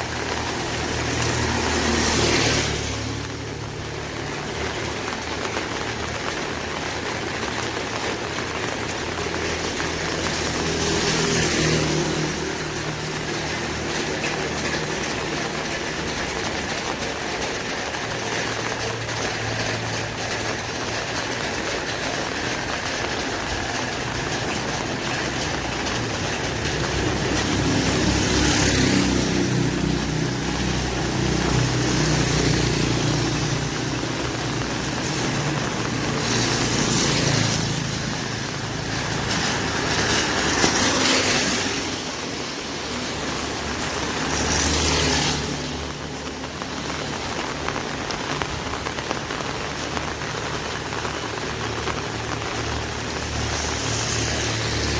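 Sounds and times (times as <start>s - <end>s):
rain pattering on an umbrella: 0.0s - 54.9s
tyre hiss on wet road: 0.0s - 54.9s.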